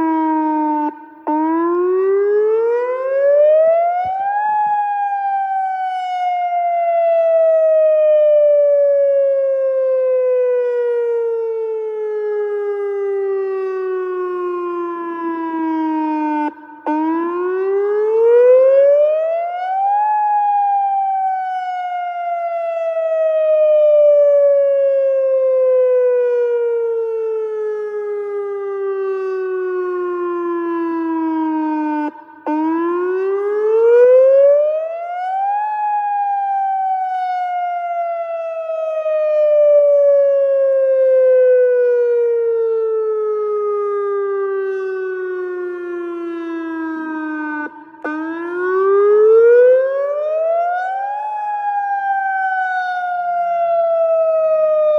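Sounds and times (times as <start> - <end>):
tornado siren wailing: 0.0 - 54.9.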